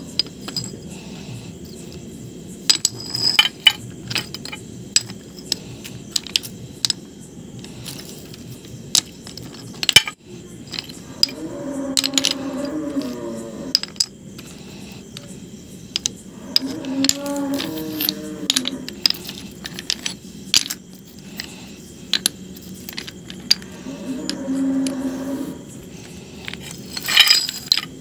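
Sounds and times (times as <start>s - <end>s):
stone pieces clinking together: 0.1s - 0.9s, 2.6s - 14.5s, 15.9s - 25.0s, 26.4s - 28.0s.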